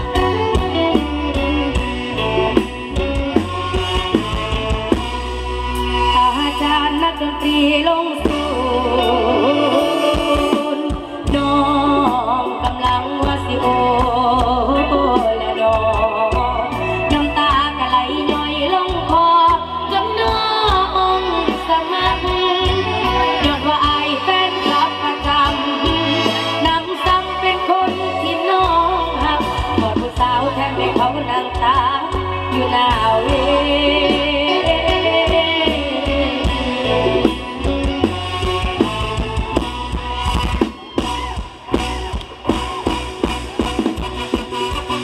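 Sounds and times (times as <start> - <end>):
heavy bass: 0.0 - 45.0
live band music over loudspeakers: 0.0 - 45.0.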